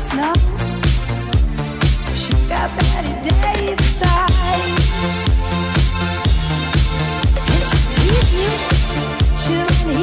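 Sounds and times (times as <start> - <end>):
dance music: 0.0 - 10.0.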